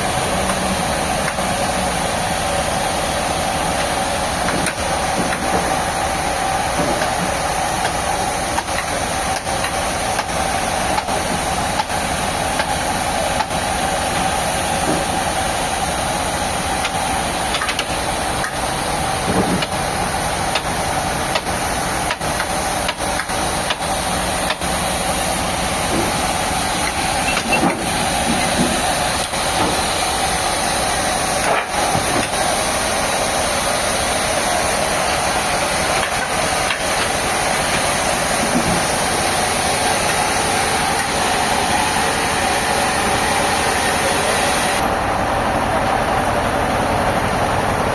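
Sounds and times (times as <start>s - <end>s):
sawmill machinery droning: 0.0s - 47.9s.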